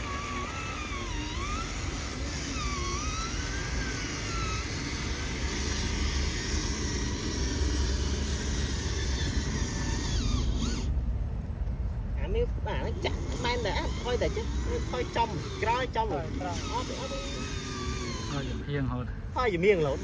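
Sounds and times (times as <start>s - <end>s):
electric motors whirring: 0.0s - 11.1s, 12.4s - 20.0s.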